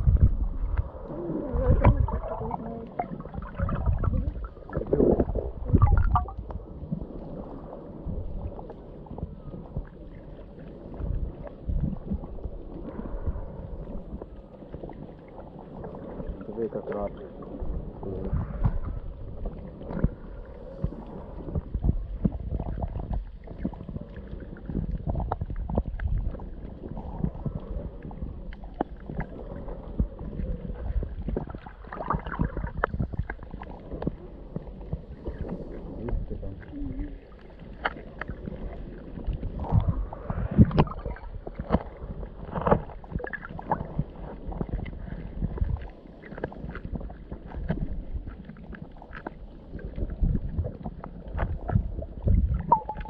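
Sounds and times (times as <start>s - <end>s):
sea water sloshing and gurgling: 0.0s - 53.0s.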